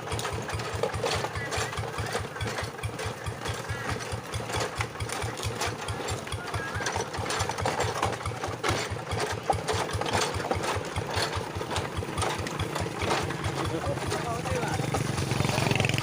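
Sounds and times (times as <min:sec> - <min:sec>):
diesel engine chugging: 0:00.0 - 0:16.0
light rattles and clicks: 0:00.0 - 0:16.0.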